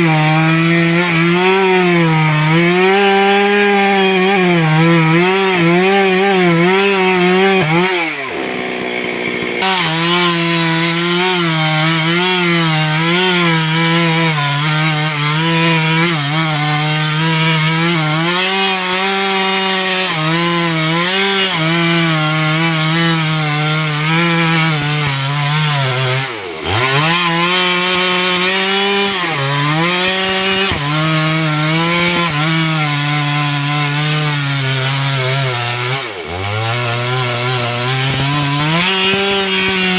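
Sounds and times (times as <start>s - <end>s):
chainsaw cutting through tree: 0.0s - 39.9s.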